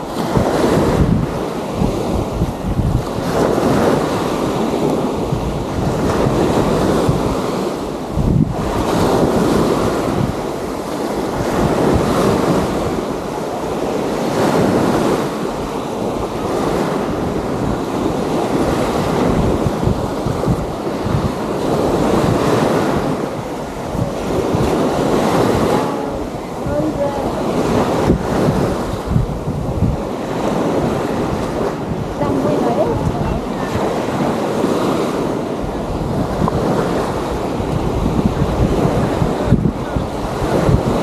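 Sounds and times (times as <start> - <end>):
small waves washing on beach: 0.0 - 41.0
wind buffeting microphone: 0.0 - 41.0.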